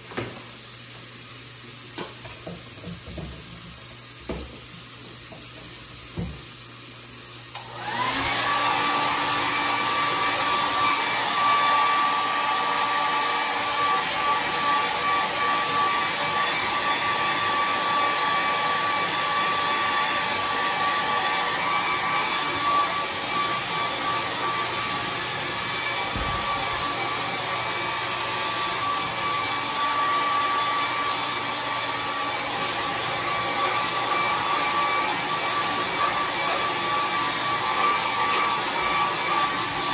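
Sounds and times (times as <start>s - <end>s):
hair dryer running: 2.0s - 6.6s, 7.4s - 39.9s.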